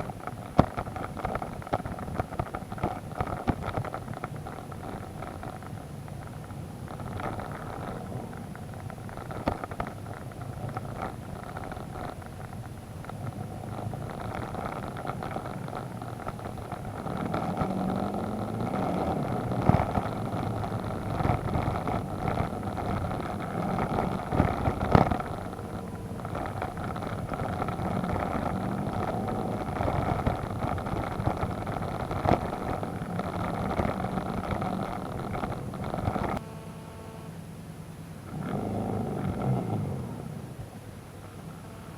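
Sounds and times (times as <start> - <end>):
motorcycle engine running: 0.0 - 37.4.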